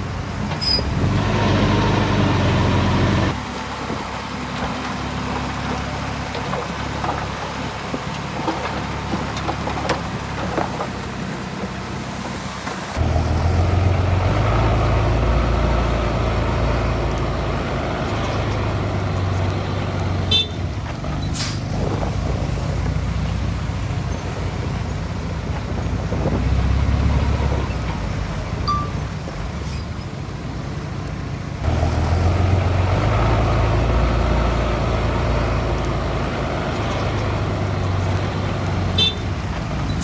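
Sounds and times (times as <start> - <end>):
heavy diesel machinery engines: 0.0 - 40.0.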